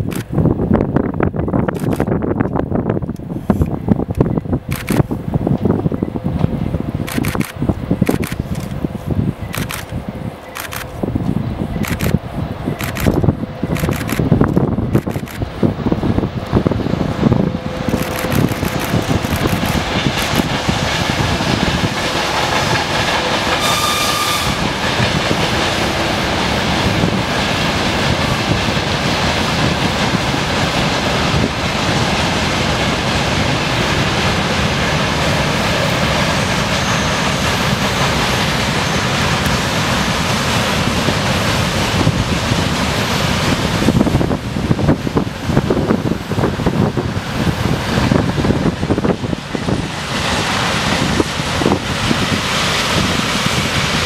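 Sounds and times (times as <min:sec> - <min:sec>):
freight train wheels clattering: 0:01.6 - 0:54.0.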